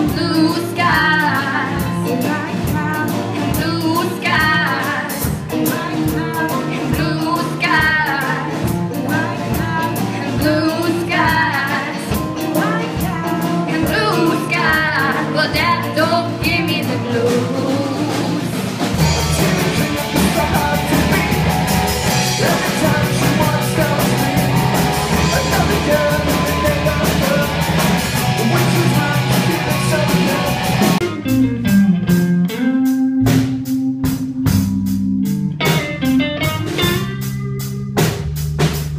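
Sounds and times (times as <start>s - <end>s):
rock band playing with singing: 0.0s - 38.9s.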